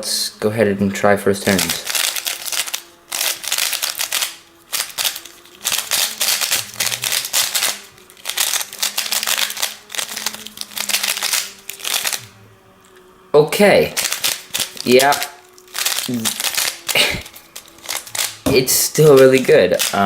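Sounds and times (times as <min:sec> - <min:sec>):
puzzle cube plastic clicks: 0:01.5 - 0:12.3, 0:13.9 - 0:20.0.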